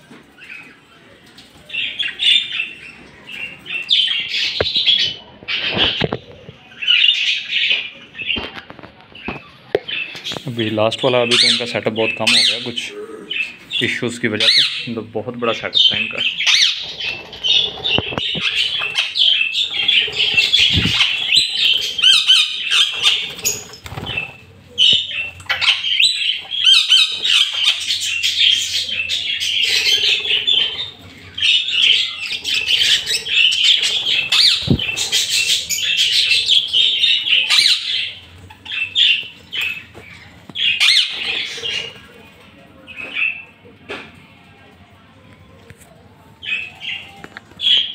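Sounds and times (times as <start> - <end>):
budgerigars chattering and squawking: 1.7 - 6.2, 6.8 - 42.2.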